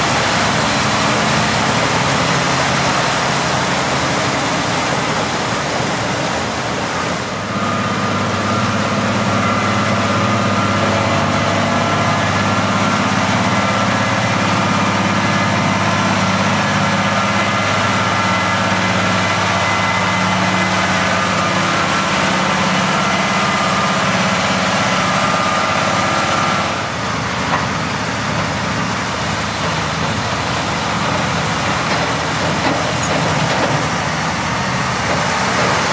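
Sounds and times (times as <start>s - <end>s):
heavy truck engine under load: 0.0s - 35.9s.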